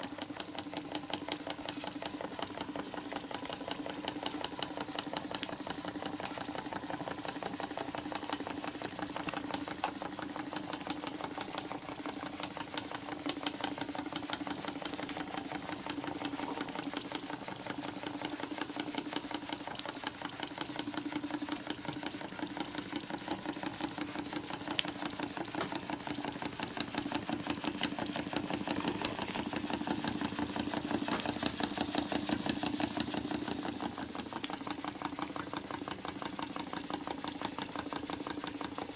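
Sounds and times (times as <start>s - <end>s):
toy steam engine clicking: 0.0s - 38.9s.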